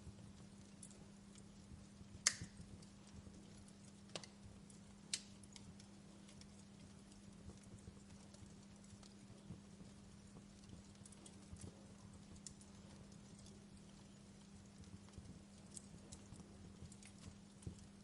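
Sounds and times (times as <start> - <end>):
steady low hum: 0.0 - 18.0
wood fire crackling softly: 0.0 - 18.0.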